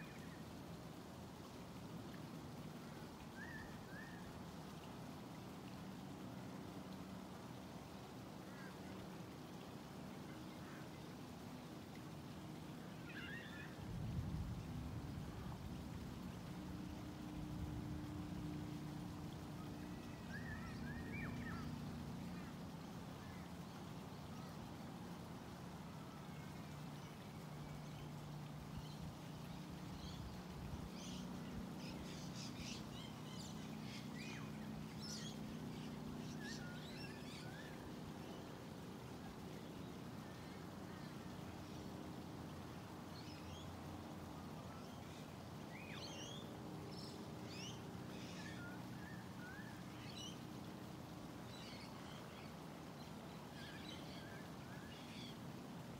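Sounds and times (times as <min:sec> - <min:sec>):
faint low hum: 0:00.0 - 0:45.7.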